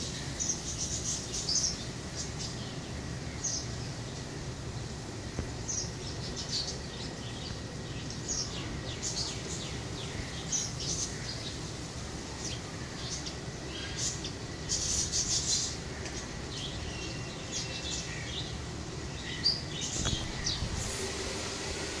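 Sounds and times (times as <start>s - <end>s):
small birds chirping: 0.0s - 20.8s
low background noise: 0.0s - 22.0s.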